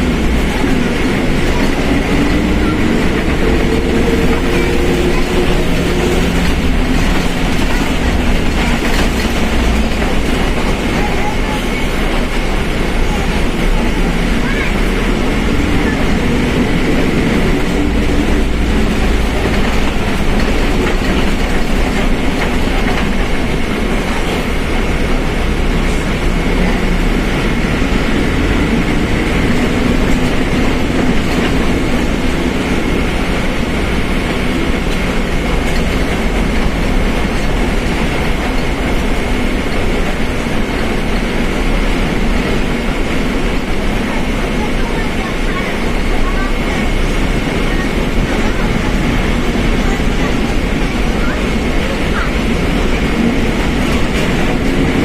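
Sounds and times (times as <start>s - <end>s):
bus diesel and ride noise: 0.0s - 55.0s.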